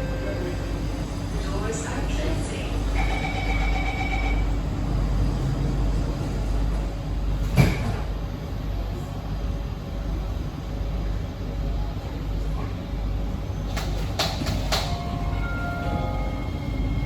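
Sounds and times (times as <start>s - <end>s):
train rumbling from inside: 0.0s - 17.0s.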